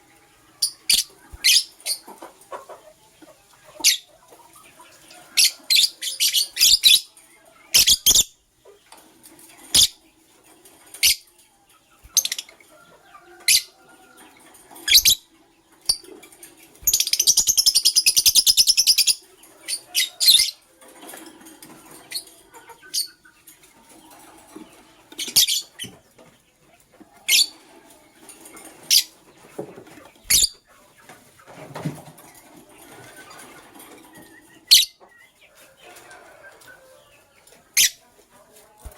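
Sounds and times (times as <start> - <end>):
lovebirds chirping: 0.0 - 20.6, 21.9 - 31.2, 32.2 - 38.9.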